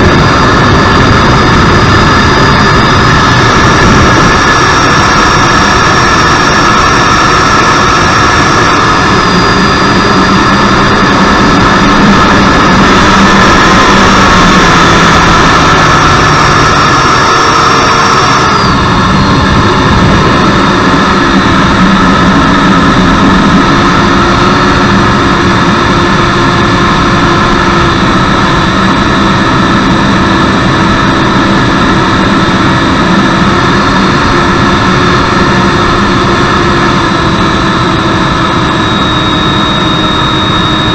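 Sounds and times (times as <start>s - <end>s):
electric ducted fan whining: 0.0s - 40.9s.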